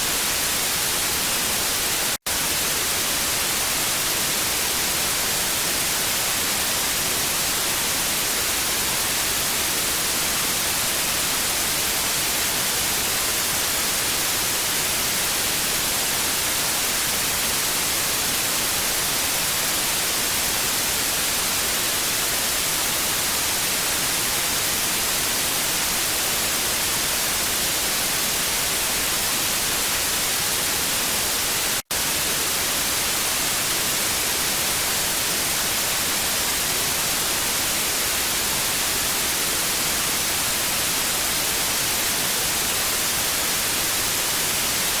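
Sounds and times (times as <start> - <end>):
television static hiss: 0.0 - 45.0.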